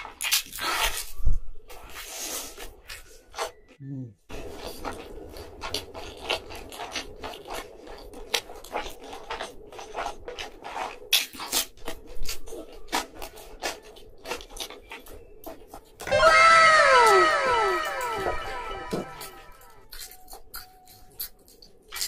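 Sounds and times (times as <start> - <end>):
person chewing food: 0.0 - 16.1, 19.4 - 22.0.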